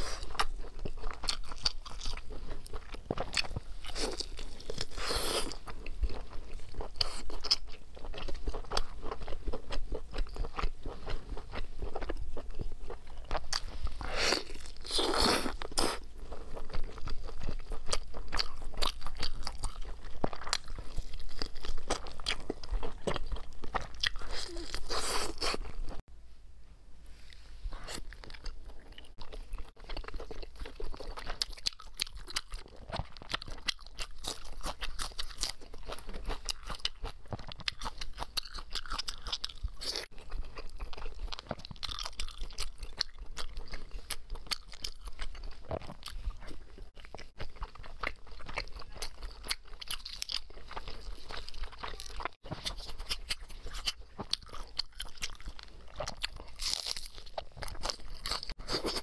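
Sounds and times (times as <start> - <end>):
person biting and chewing: 0.0 - 26.0, 27.8 - 59.0.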